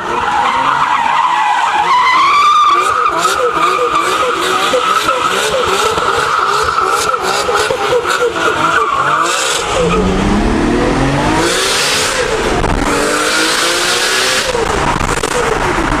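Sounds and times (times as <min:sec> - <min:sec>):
car engine accelerating hard: 0:03.1 - 0:16.0.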